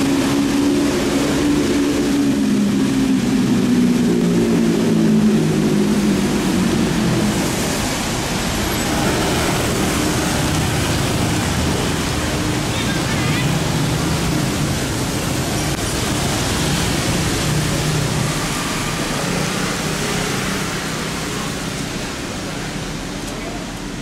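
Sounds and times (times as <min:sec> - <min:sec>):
tyres hissing through water: 0:00.0 - 0:24.0.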